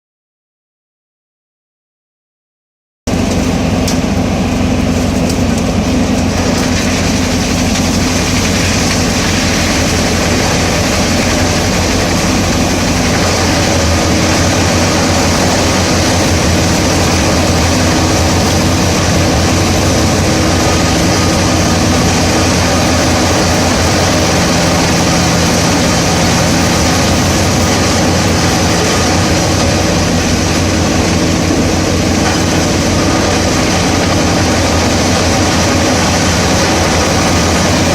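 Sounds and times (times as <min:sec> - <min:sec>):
wood chipper running: 0:03.1 - 0:37.9.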